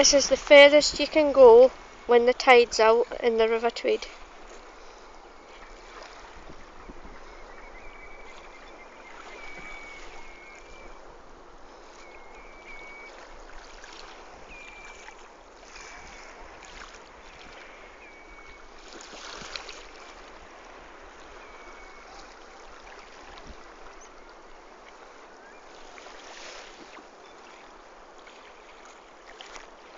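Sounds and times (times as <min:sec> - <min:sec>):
river water lapping: 0:00.0 - 0:29.9
wind: 0:00.0 - 0:29.9
wind rumble on microphone: 0:00.0 - 0:29.9
rustle: 0:04.0 - 0:29.9.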